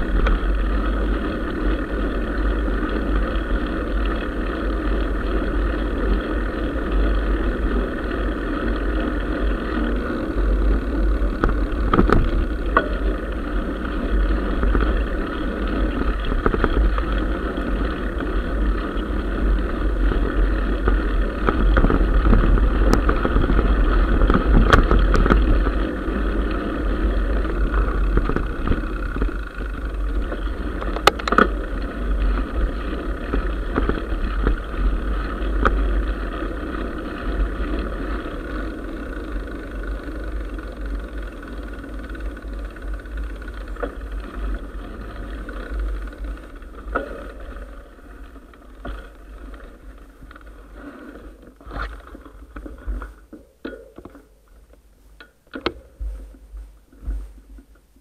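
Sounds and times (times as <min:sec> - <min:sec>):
wind rumble on microphone: 0:00.0 - 0:53.1
bike tyre and frame rattle: 0:00.0 - 0:58.0.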